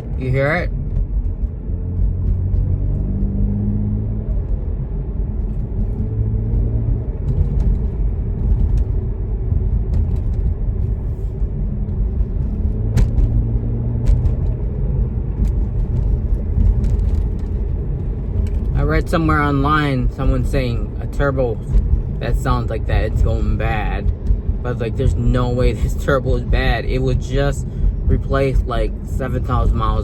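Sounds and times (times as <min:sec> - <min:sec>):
car engine rumble: 0:00.0 - 0:30.0.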